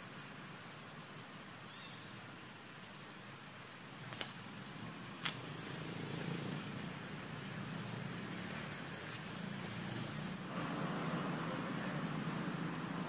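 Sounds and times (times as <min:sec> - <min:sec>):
even hiss: 0:00.0 - 0:13.0.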